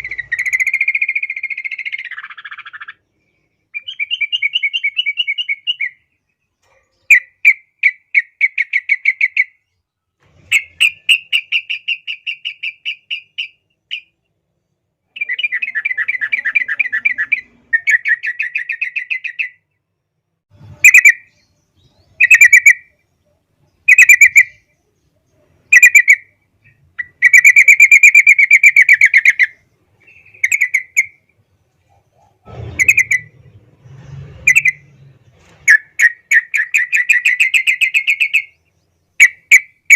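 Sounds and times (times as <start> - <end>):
bird chattering song: 0.0 - 19.6, 20.6 - 33.8, 34.4 - 39.9.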